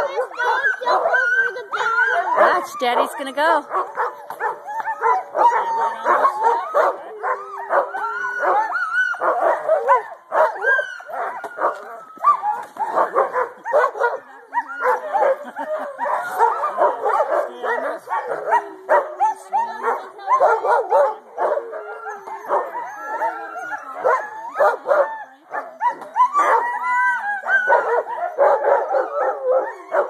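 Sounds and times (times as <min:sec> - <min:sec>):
sled dogs barking and yipping: 0:00.0 - 0:30.0.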